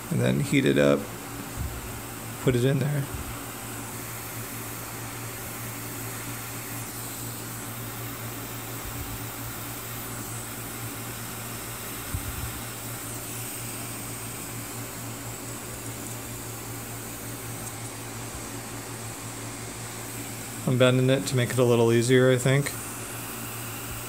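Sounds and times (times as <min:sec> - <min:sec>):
fan-like hiss: 0:00.0 - 0:24.0.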